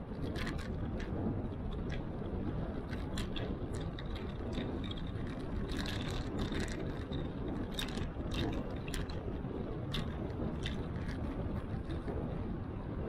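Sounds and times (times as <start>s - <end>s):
wind rumbling on microphone: 0.0s - 13.0s
bicycle clicks and rattles: 0.1s - 12.2s.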